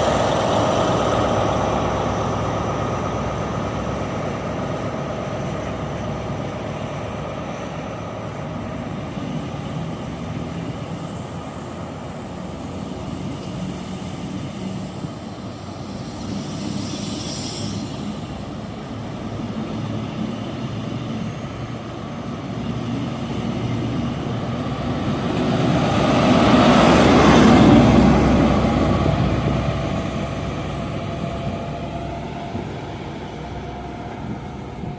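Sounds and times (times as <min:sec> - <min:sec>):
train engines humming: 0:00.0 - 0:34.9.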